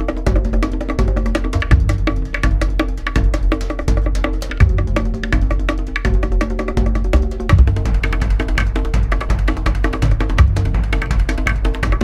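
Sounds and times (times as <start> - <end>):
background music with percussion beat: 0.0 - 12.0.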